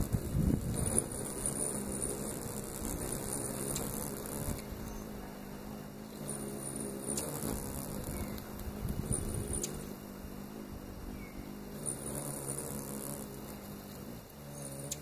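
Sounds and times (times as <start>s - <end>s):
hummingbird wings humming: 0.0s - 15.0s.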